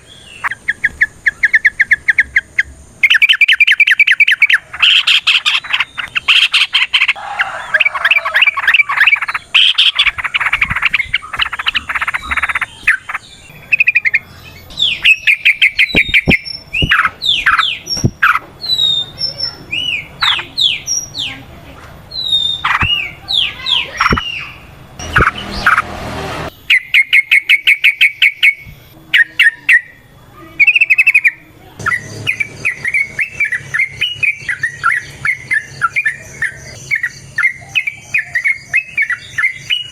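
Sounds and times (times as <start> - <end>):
bird chattering trills and whistles: 0.0 - 21.4, 22.1 - 25.8, 26.5 - 39.9.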